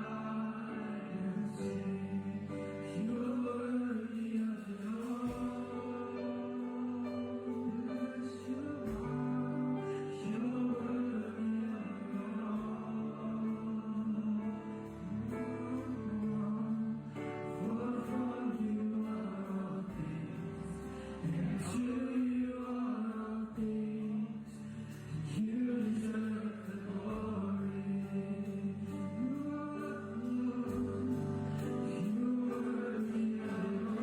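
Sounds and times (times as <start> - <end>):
person singing: 0.0 - 34.0.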